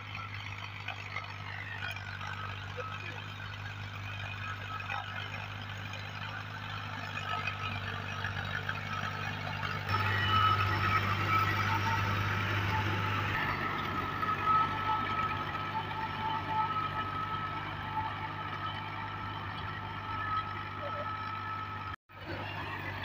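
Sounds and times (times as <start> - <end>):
tractor diesel engine hum: 0.0 - 23.0.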